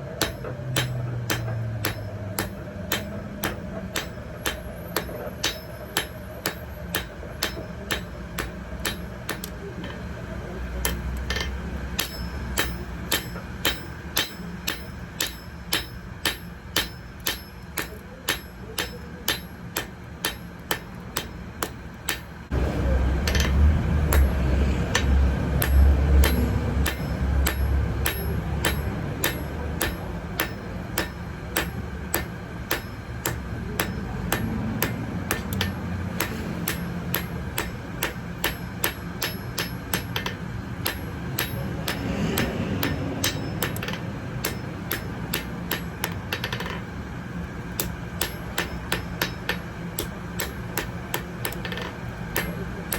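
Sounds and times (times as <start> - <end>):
hammer striking metal on anvil: 0.0 - 52.9.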